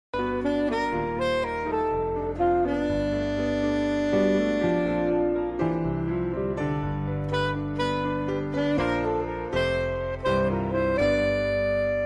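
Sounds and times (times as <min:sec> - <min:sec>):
instrumental theme music: 0:00.1 - 0:12.0.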